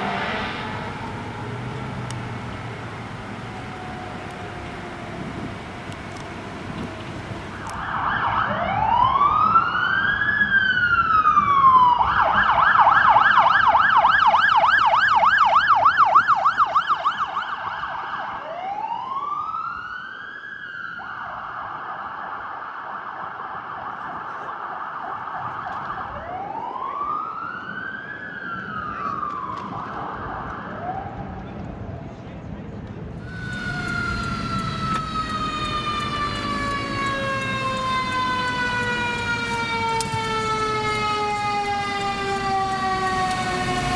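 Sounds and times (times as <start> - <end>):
emergency siren wailing and yelping: 0.0 - 31.5, 33.2 - 43.9.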